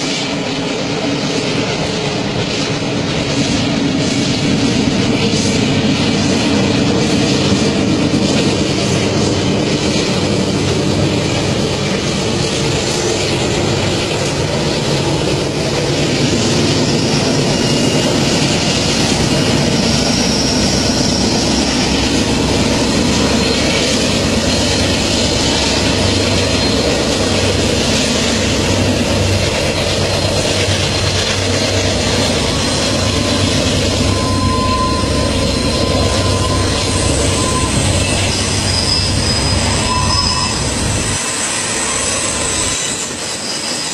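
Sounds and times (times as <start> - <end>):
freight train wagons rumbling: 0.0 - 43.9
train wheel squeal: 0.0 - 43.9.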